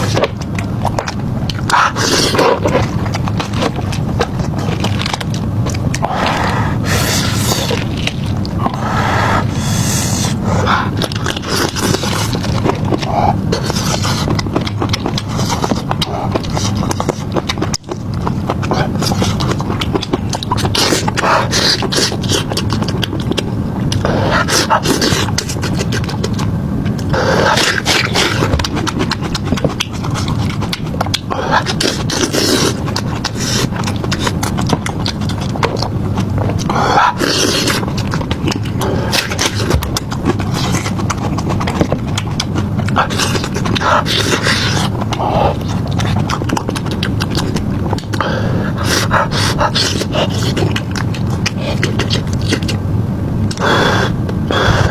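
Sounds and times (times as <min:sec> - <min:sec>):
chewing and crunching: 0:00.0 - 0:54.9.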